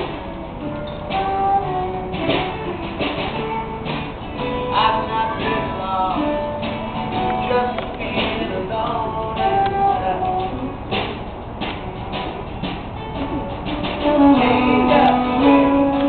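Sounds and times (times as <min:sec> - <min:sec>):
live band playing instrumental: 0:00.0 - 0:16.0
strummed guitar: 0:00.0 - 0:16.0.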